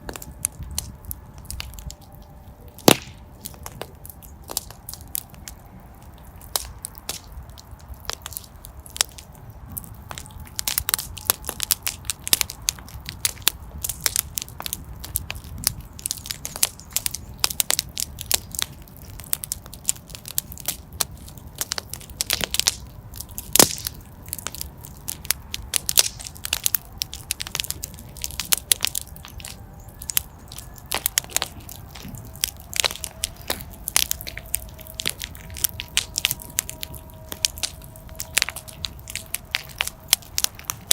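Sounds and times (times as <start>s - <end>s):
fire burning in a fireplace: 0.0s - 40.9s
fire popping and snapping: 0.0s - 40.9s.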